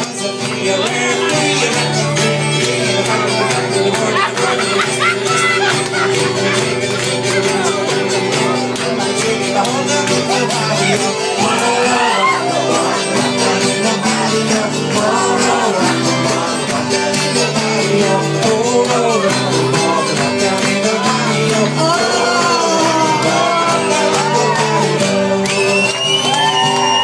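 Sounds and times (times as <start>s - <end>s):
person singing: 0.0s - 27.0s
strummed guitar chords: 0.0s - 27.0s.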